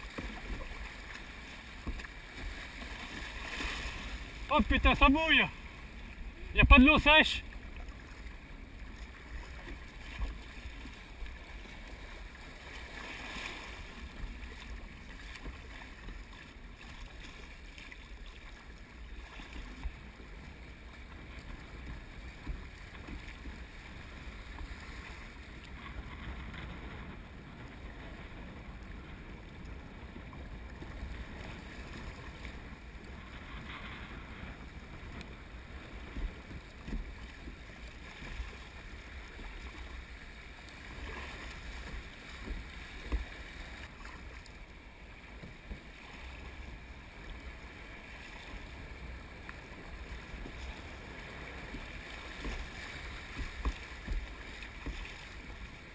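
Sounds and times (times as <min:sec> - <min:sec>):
river water rushing around kayak: 0:00.0 - 0:55.9.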